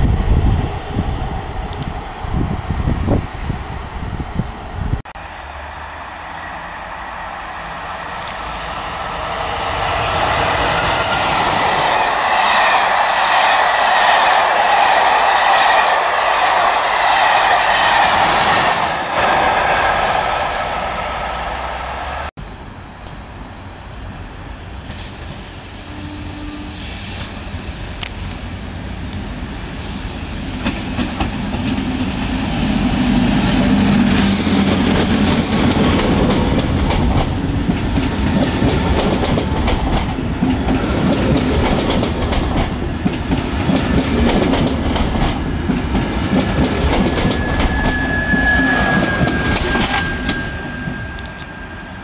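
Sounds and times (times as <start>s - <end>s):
train approaching: 0.0s - 52.0s
train passing close by: 0.0s - 52.0s.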